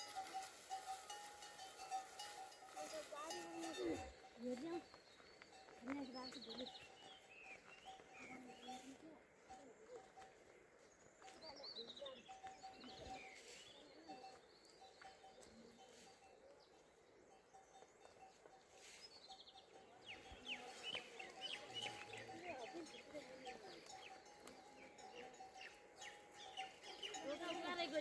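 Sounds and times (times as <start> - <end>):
faint birds chirping: 3.8 - 28.0.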